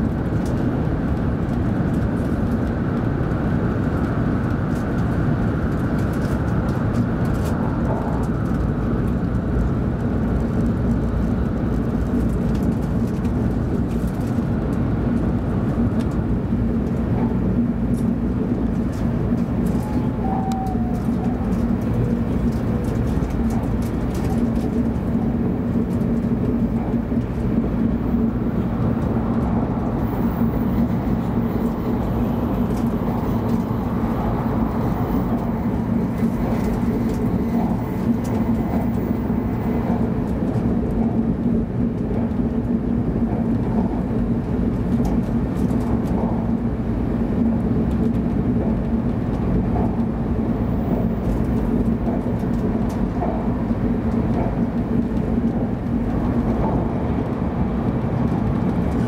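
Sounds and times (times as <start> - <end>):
constant low hum: 0.0 - 59.0
train cabin rumble and rush: 0.0 - 59.0.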